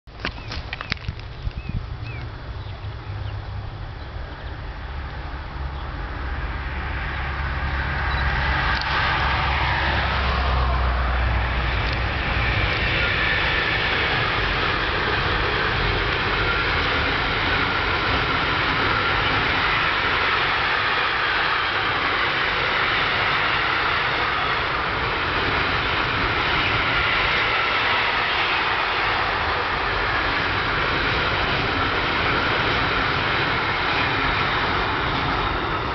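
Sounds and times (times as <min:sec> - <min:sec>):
locomotive passing rumble: 0:00.1 - 0:35.9
wagon wheels rolling on rail: 0:00.1 - 0:35.9.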